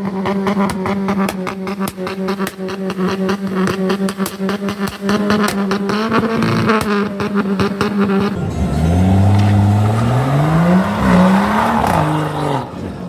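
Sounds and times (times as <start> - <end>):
diesel engine revving: 0.2 - 13.0.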